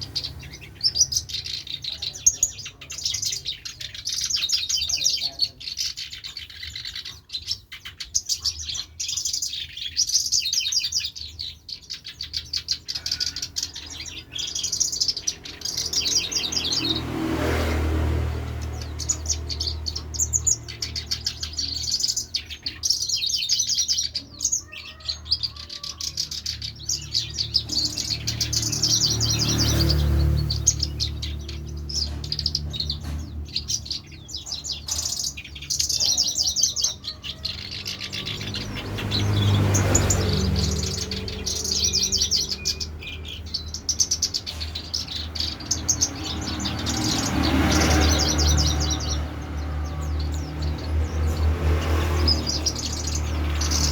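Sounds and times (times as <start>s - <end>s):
songbird chirping and trilling: 0.0s - 53.9s.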